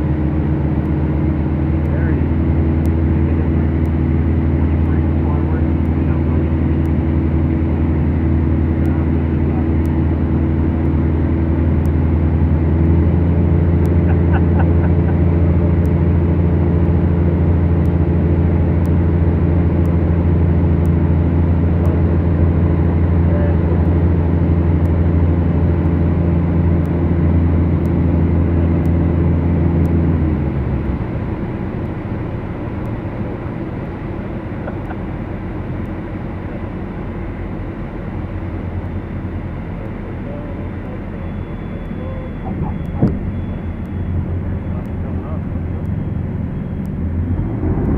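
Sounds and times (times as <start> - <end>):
propeller aircraft engines droning: 0.0 - 47.9.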